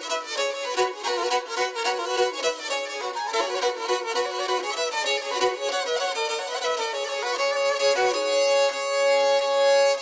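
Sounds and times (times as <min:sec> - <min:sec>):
bowed string folk tune: 0:00.0 - 0:10.0.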